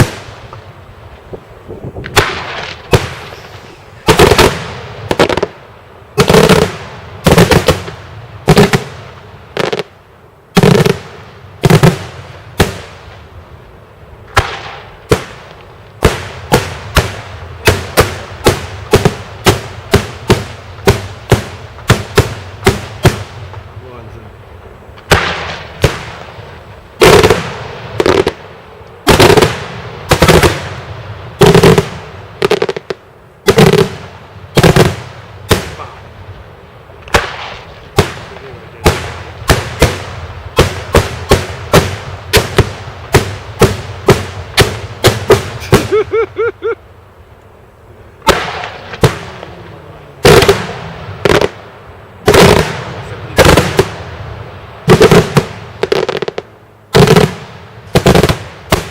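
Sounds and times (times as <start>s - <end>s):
fireworks bangs: 0.0s - 13.4s, 14.2s - 46.7s, 48.1s - 58.9s.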